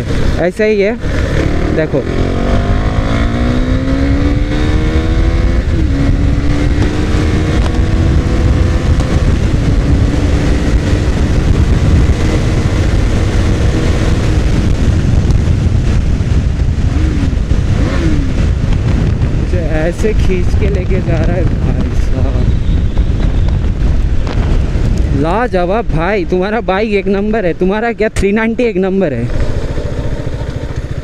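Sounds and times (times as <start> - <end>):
motorcycle engine accelerating: 0.0 - 25.4, 29.1 - 31.0
wind rush on microphone: 0.0 - 28.5.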